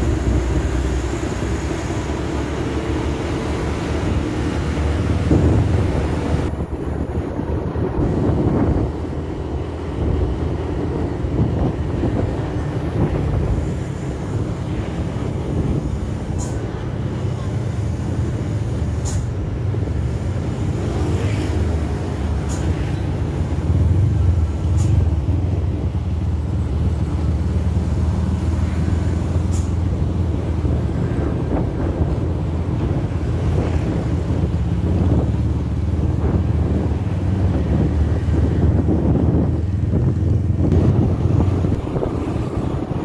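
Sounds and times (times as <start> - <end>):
engine humming: 0.0 - 43.0.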